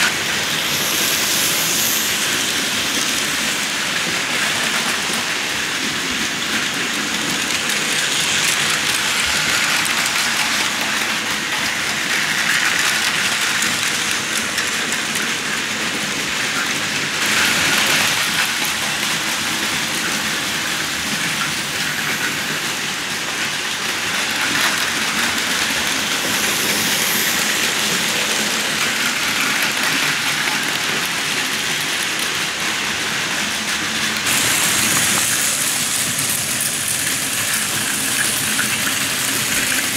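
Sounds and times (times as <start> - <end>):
model trains running on track: 0.0 - 39.9.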